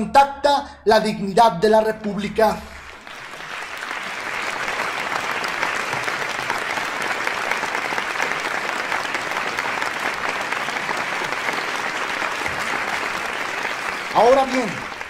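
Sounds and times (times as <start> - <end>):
audience applauding: 2.4 - 15.0.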